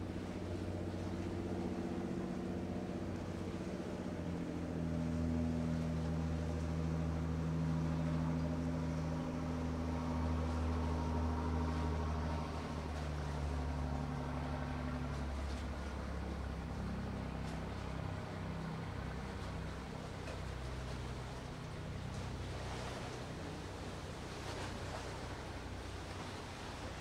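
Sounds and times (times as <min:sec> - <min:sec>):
ship diesel engines droning: 0:00.0 - 0:27.0.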